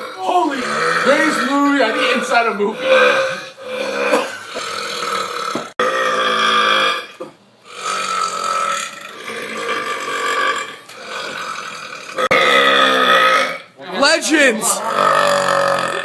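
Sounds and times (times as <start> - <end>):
men belching: 0.0 - 7.0, 7.7 - 16.0.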